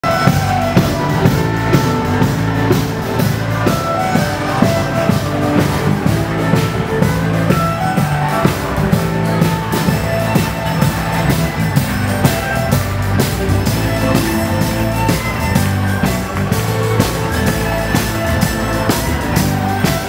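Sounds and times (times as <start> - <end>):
live band playing dance tune: 0.0 - 20.0.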